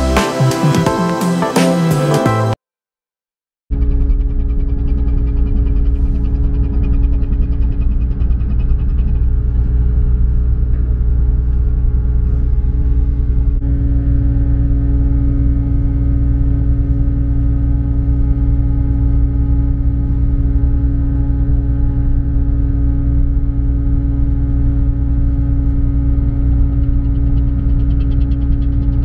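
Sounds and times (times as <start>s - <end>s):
constant hum: 3.7s - 29.0s.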